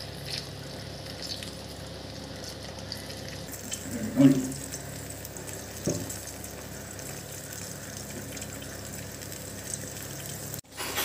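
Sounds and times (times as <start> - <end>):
curry simmering hiss: 0.6 - 10.6.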